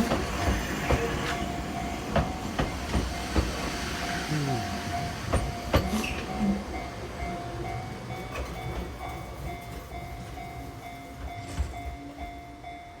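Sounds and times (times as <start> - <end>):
level-crossing warning bell dinging: 0.0 - 13.0
low train rumble: 0.0 - 13.0.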